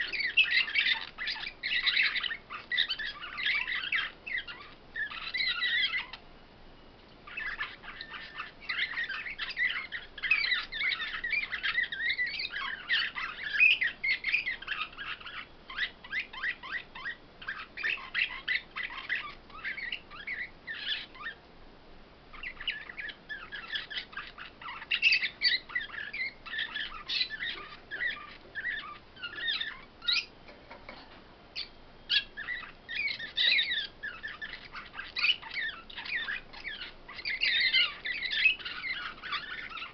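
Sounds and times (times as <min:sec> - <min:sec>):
songbirds twittering: 0:00.0 - 0:21.6, 0:22.2 - 0:39.9.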